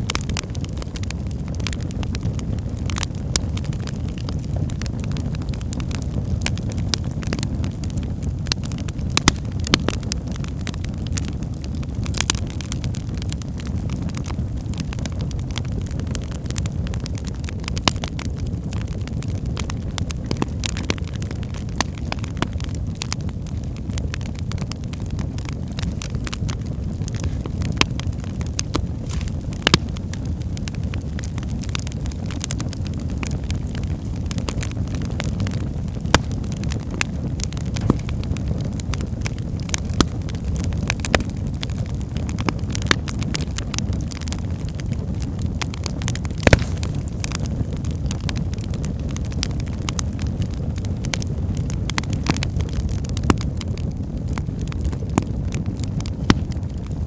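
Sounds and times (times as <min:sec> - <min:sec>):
burning logs crackling and popping: 0:00.0 - 0:57.0
fire flames rumbling: 0:00.0 - 0:57.0.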